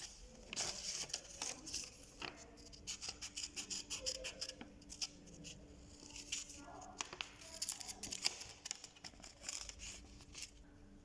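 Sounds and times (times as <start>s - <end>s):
scissors snipping paper: 0.0s - 10.5s.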